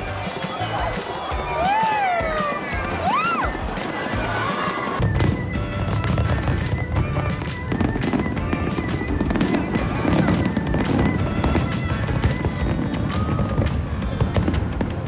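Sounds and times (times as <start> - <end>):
background music: 0.0 - 15.0
fireworks bursting: 0.0 - 15.0.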